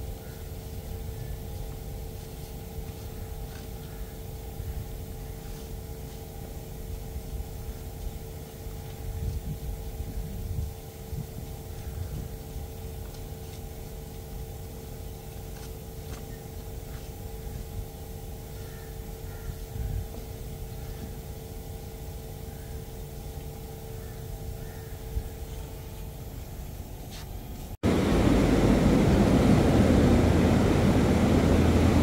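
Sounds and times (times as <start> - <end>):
low uneven rumble: 0.0 - 32.0
misting fans humming: 0.0 - 32.0.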